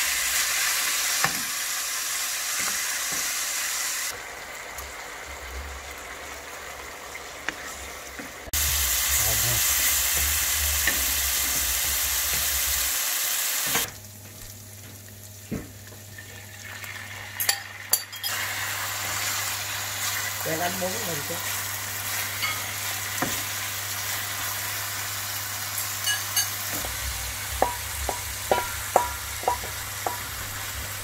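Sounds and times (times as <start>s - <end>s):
food sizzling in a wok: 0.0s - 31.0s
garlic frying in oil: 0.0s - 31.0s.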